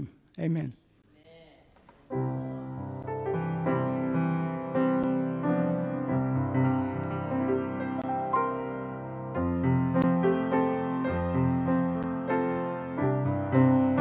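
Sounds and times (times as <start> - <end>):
slow piano keyboard music: 2.1 - 14.0.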